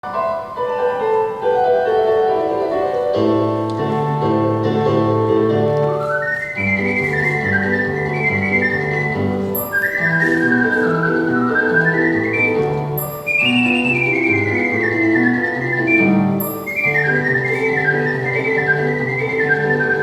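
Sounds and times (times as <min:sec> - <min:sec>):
ocarina melody: 0:00.0 - 0:20.0
piano chords: 0:00.0 - 0:20.0.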